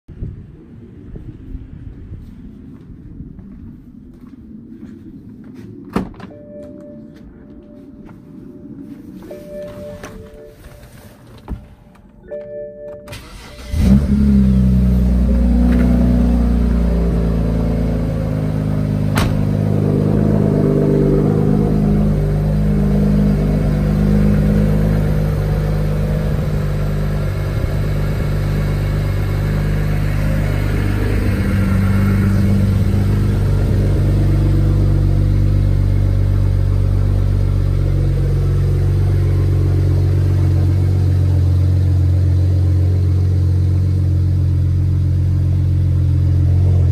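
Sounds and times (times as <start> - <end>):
car engine starting and idling: 8.8 - 46.9.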